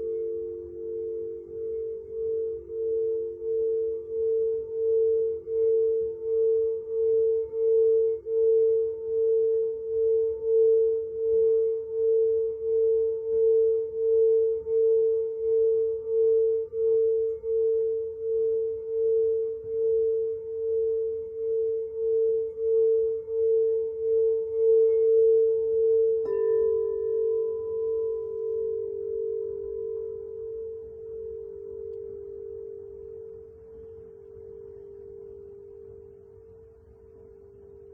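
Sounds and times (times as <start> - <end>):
pulsing ringing tone: 0.0 - 37.9.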